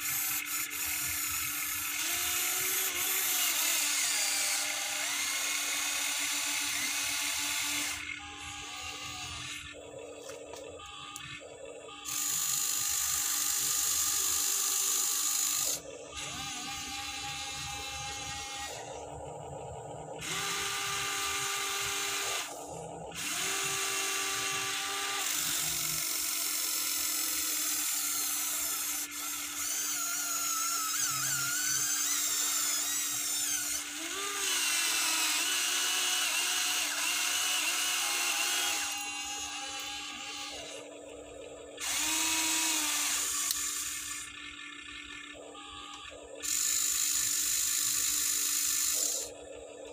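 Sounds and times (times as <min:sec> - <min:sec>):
small electric motors whirring: 0:00.0 - 0:49.9.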